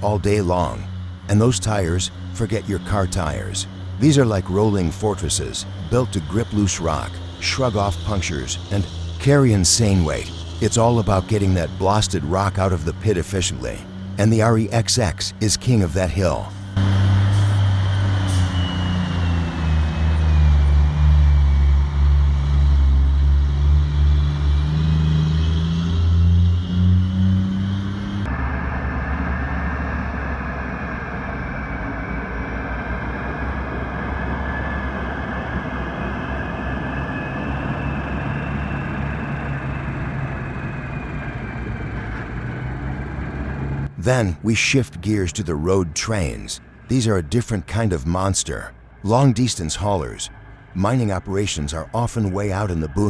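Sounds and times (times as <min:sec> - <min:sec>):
high whine: 0:00.0 - 0:53.0
truck diesel engine under load: 0:00.0 - 0:53.0.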